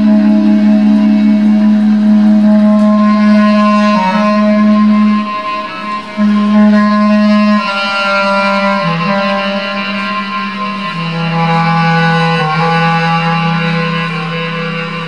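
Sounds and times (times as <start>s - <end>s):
bass clarinet low notes: 0.0s - 15.0s.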